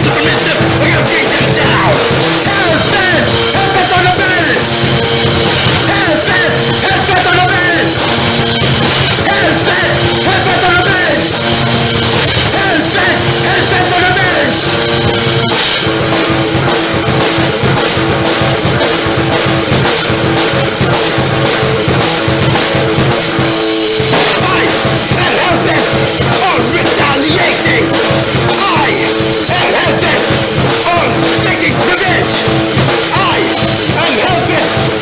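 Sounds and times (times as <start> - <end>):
drum kit playing: 0.0 - 35.0
held pitched notes: 0.0 - 35.0
loud rock music: 0.0 - 35.0.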